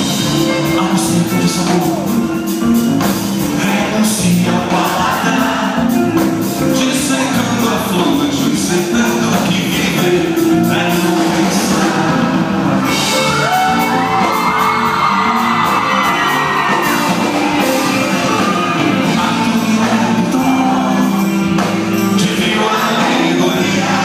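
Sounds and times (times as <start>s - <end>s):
live band playing loudly: 0.0s - 24.0s
person singing: 0.0s - 24.0s.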